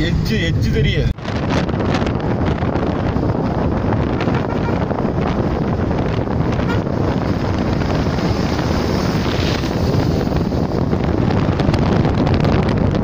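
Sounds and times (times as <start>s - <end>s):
road and engine noise: 0.0s - 13.0s
wind rushing over microphone: 0.0s - 13.0s
heavy trucks passing: 1.2s - 12.4s.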